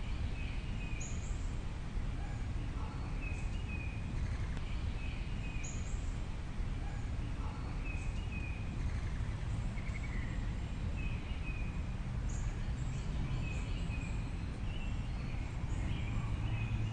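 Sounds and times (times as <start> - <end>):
steady low rumble: 0.0 - 16.9.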